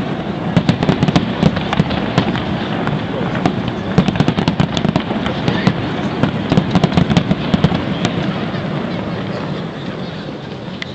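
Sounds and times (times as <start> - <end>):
fireworks bangs and crackles: 0.0 - 10.9.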